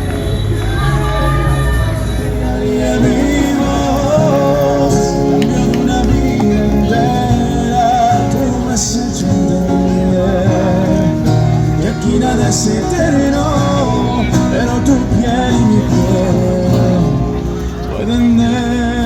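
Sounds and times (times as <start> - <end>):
person singing: 0.0 - 19.0
plucked guitar: 0.0 - 19.0.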